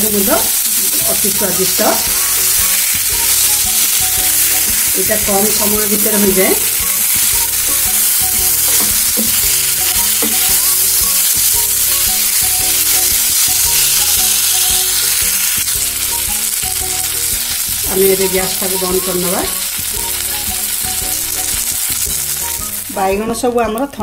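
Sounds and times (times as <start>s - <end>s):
frying in hot oil: 0.0s - 24.0s
spatula stirring in a pan: 0.1s - 22.9s.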